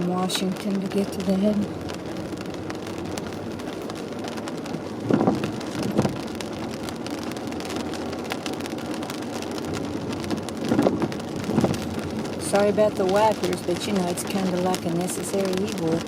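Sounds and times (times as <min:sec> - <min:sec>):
rain patter on car: 0:00.0 - 0:16.0
windshield wipers sweeping: 0:00.0 - 0:16.0.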